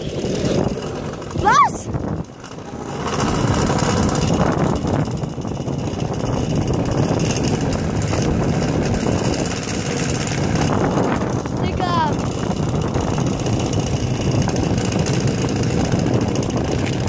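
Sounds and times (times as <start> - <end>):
wind rushing on microphone: 0.0 - 17.0.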